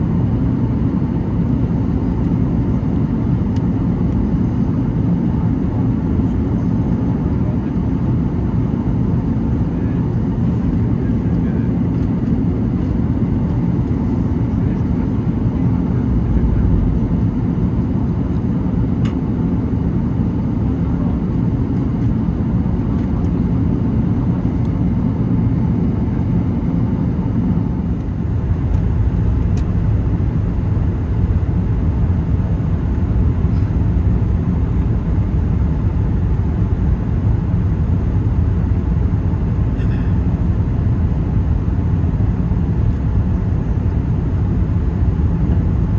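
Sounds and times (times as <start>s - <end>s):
aircraft cabin engine rumble: 0.0s - 45.9s.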